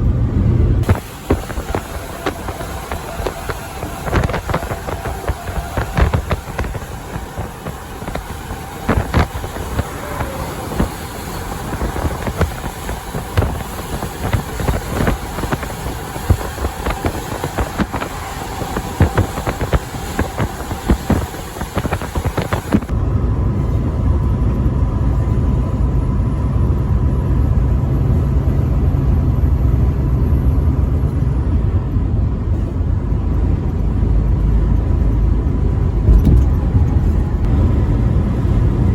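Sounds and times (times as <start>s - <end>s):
low engine and road drone: 0.0s - 38.9s.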